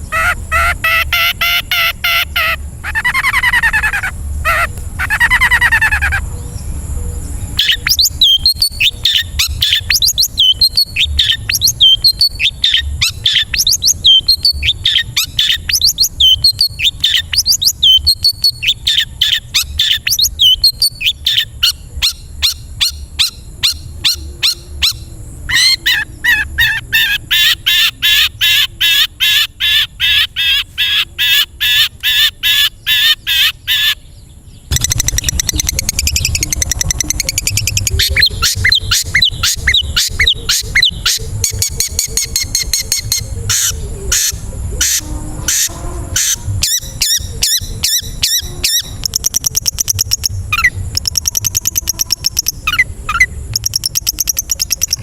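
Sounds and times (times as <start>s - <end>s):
bird chattering calls: 0.0s - 6.6s, 7.4s - 34.1s, 34.7s - 55.0s.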